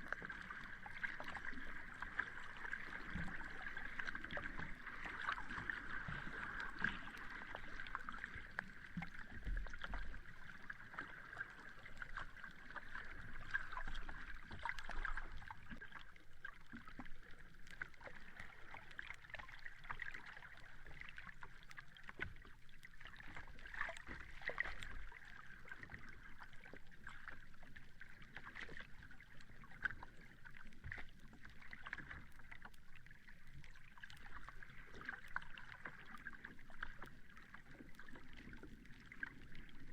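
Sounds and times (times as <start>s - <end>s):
sea water lapping at shore: 0.0s - 39.9s.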